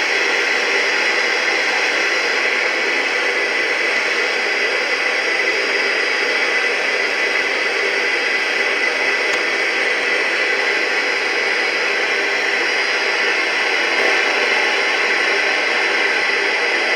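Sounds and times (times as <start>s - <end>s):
radio static hiss: 0.1s - 16.9s.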